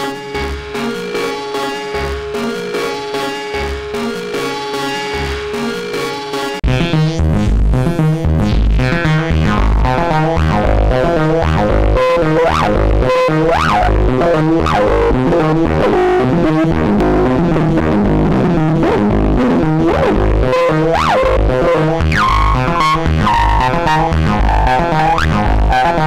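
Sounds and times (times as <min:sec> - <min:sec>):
distorted synth bass line: 0:00.0 - 0:26.0.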